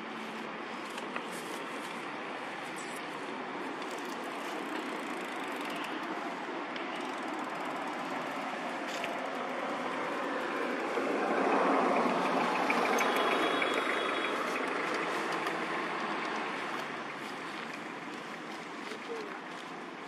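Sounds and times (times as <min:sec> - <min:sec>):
vehicle noise: 0:00.0 - 0:20.0.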